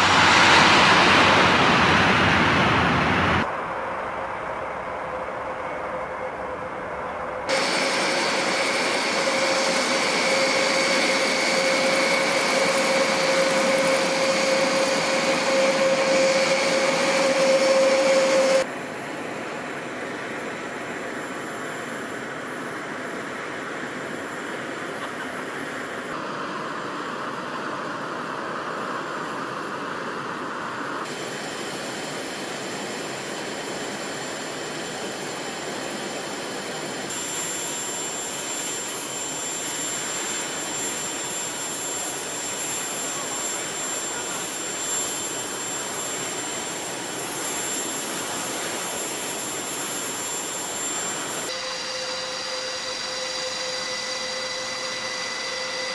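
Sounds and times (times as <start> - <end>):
turboprop engines running: 0.0 - 55.9.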